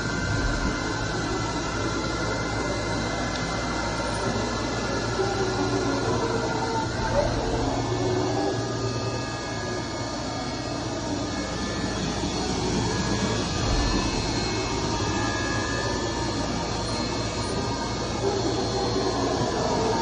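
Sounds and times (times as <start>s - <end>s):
low hum: 0.0s - 20.0s
machining center running: 0.0s - 20.0s
whining tones: 0.0s - 20.0s.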